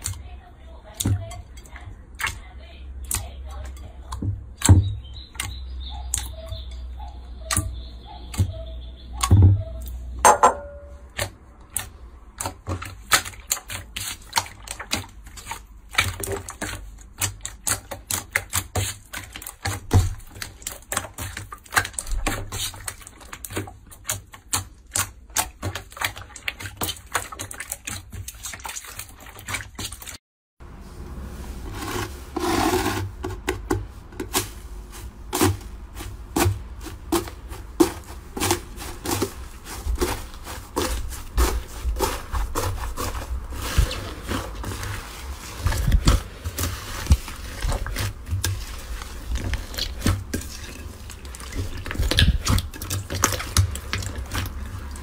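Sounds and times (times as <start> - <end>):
wet slime squelch: 0.0 - 55.0
slime squishing by hand: 7.3 - 30.2, 31.0 - 55.0.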